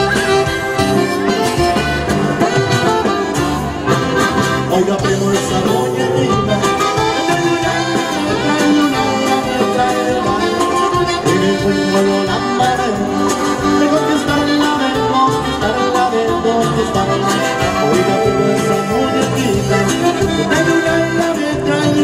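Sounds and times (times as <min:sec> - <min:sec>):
band playing cumbia: 0:00.0 - 0:22.0
drum kit: 0:00.0 - 0:22.0
electric bass: 0:00.0 - 0:22.0
strummed guitar: 0:00.0 - 0:22.0.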